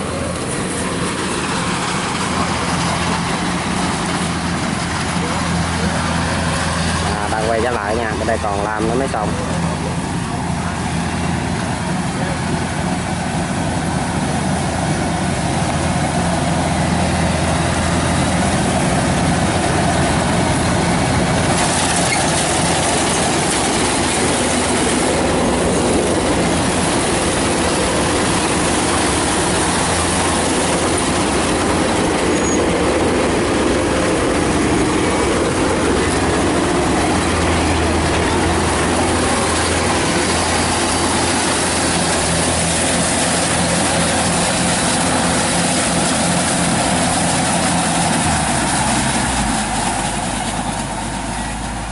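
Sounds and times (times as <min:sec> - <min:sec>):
diesel engine drone: 0:00.0 - 0:51.9.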